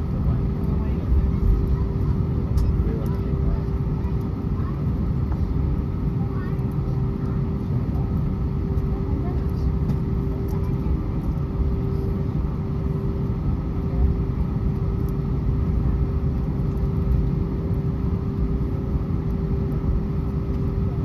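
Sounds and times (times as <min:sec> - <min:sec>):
aircraft cabin rumble: 0:00.0 - 0:21.0
mid-pitched hum: 0:00.0 - 0:21.0.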